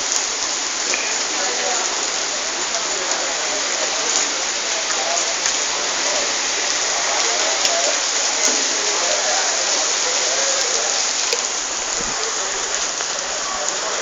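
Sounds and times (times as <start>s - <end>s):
faint voices: 0.0s - 14.0s
rain falling steadily: 0.0s - 14.0s.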